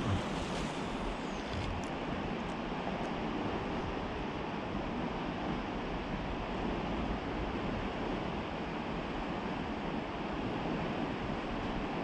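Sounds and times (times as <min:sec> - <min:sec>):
flowing river water: 0:00.0 - 0:12.0
wind: 0:00.0 - 0:12.0.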